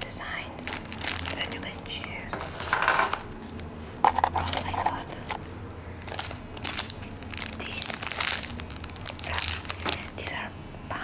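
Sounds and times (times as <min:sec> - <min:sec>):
plastic packaging crinkling: 0:00.6 - 0:10.4.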